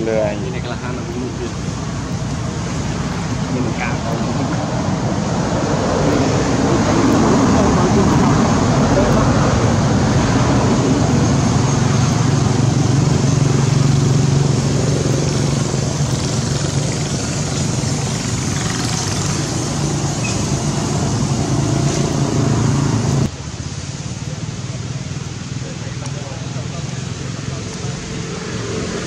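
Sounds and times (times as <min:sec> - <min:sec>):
motor engine humming: 0:00.0 - 0:23.3.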